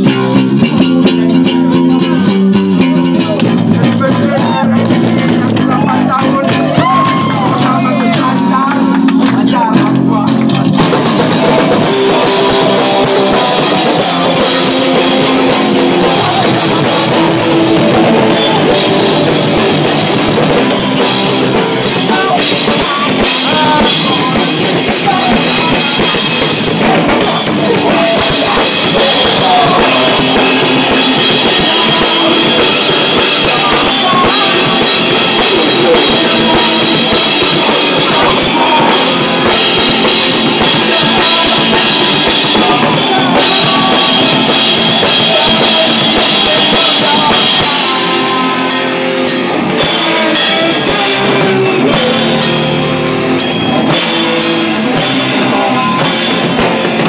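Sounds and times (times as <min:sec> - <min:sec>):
drum kit with cymbals: 0:00.0 - 0:57.0
electric bass: 0:00.0 - 0:57.0
electric guitar: 0:00.0 - 0:57.0.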